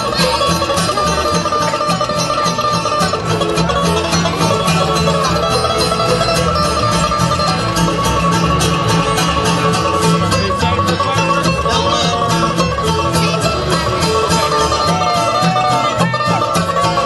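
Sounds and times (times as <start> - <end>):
upbeat bluegrass string music: 0.0 - 17.0.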